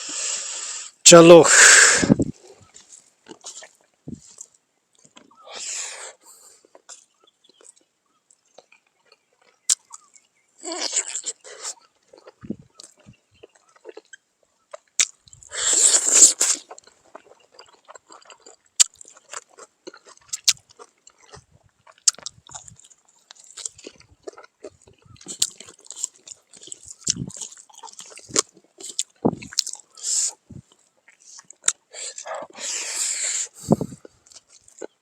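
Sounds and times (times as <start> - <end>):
person chewing crunchy food: 1.6 - 35.0.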